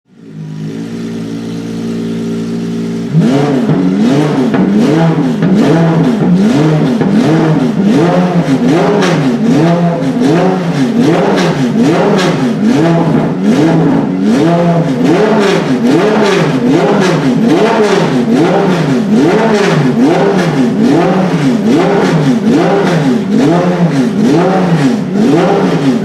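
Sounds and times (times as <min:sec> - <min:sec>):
car engine idling and revving: 0:00.1 - 0:26.0.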